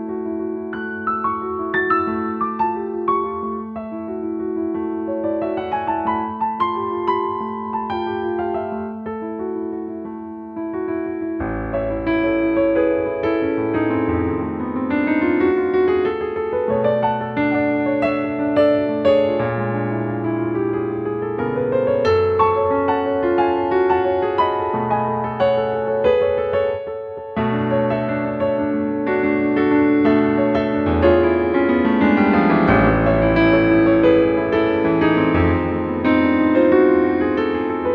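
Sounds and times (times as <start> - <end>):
solo piano arpeggios: 0.0 - 37.9.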